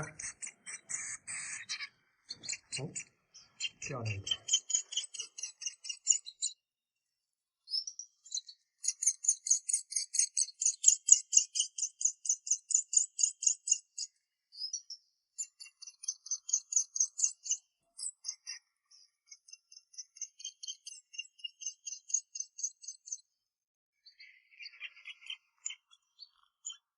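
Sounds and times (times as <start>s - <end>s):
small songbirds chirping: 0.0s - 26.9s.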